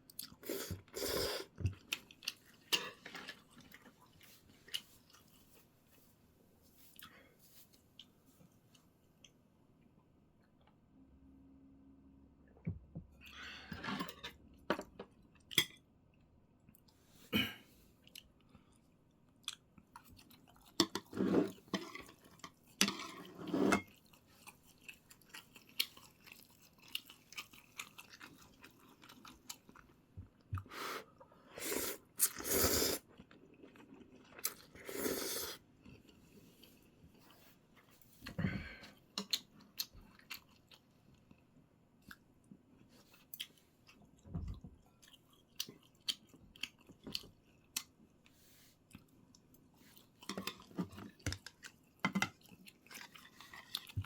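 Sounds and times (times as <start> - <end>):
person chewing and crunching food: 0.0 - 5.7, 15.3 - 30.7, 31.8 - 54.0.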